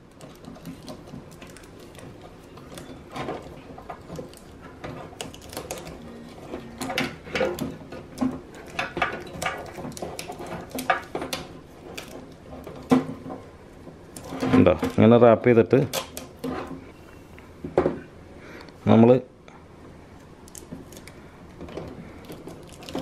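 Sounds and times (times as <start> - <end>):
tape crinkling and crackling: 0.0 - 16.9, 20.2 - 23.0.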